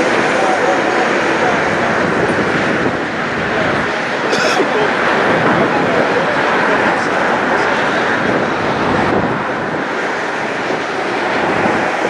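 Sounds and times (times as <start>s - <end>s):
jet engine on landing approach: 0.0s - 12.0s.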